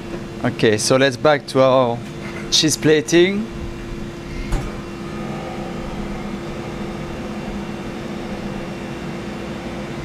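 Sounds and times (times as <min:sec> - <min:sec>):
kitchen machinery hum: 0:00.0 - 0:10.0.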